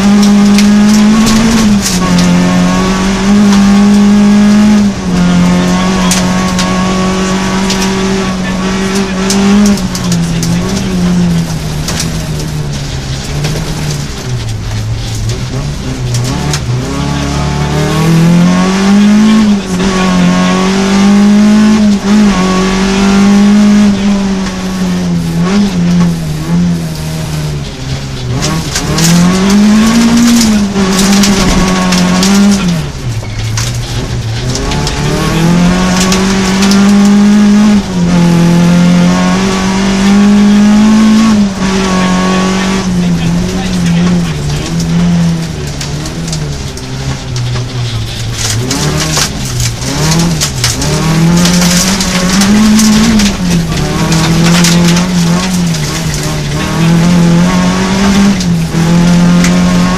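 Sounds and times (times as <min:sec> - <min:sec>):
gravel hitting car: 0:00.0 - 0:59.9
rally car engine revving: 0:00.0 - 0:59.9.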